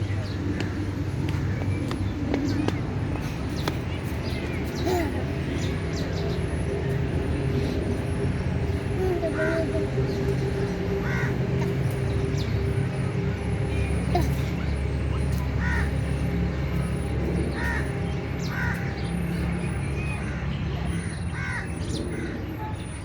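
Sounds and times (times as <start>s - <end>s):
steady low hum: 0.0s - 21.1s.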